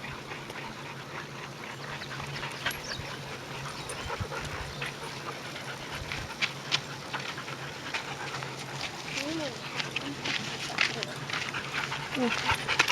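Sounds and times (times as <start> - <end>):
dogs moving about: 0.0 - 12.9.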